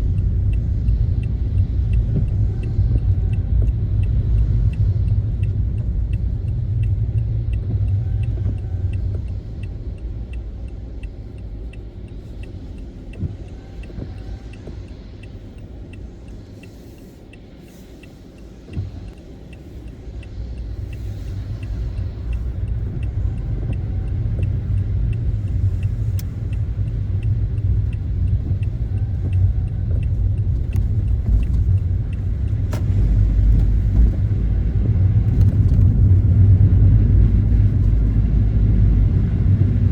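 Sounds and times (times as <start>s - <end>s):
car road and engine rumble: 0.0s - 39.9s
faint regular ticking: 0.0s - 39.9s.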